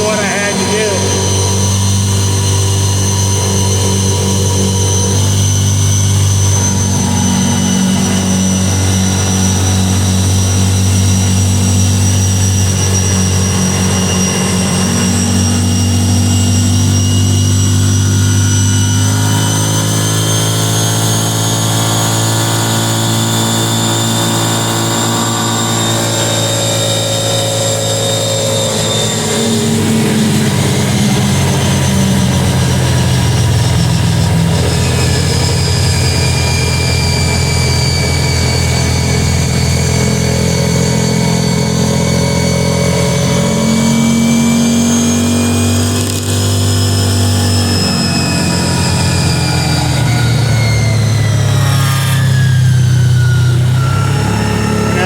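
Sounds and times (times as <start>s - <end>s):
atv engine running: 0.0s - 55.0s
thin high whine: 0.0s - 55.0s.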